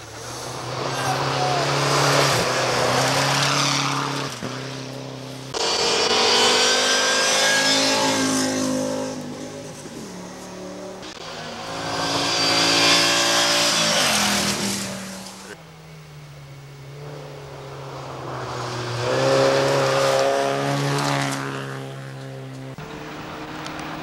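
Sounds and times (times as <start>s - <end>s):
rally cars passing at full throttle: 0.0s - 24.0s.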